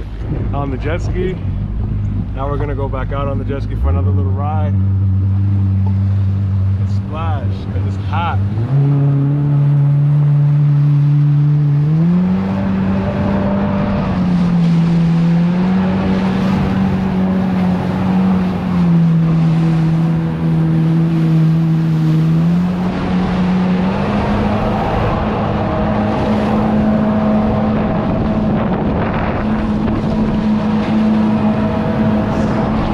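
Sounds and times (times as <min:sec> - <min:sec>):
jet ski engine running: 0:00.0 - 0:32.9.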